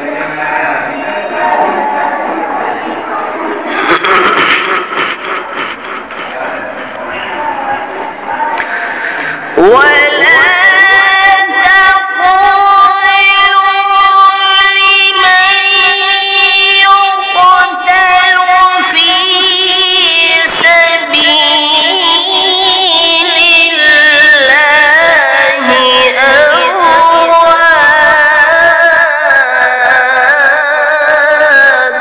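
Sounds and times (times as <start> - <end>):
man reciting melodically: 6.0 - 32.0.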